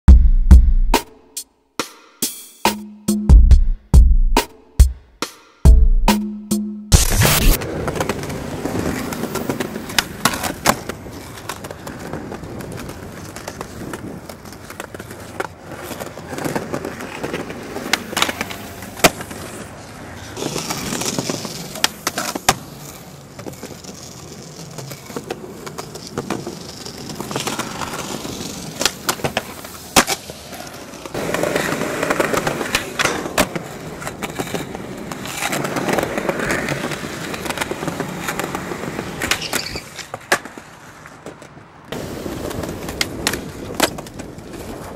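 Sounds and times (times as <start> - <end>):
skateboard scraping on rail: 7.0 - 44.9
skateboard wheels rolling on concrete: 7.3 - 44.9
skateboard clacking: 7.6 - 44.9.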